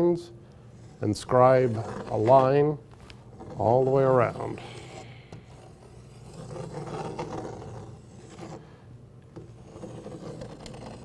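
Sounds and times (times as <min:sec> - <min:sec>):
compass point scraping wood: 0:00.7 - 0:08.8, 0:09.4 - 0:11.0.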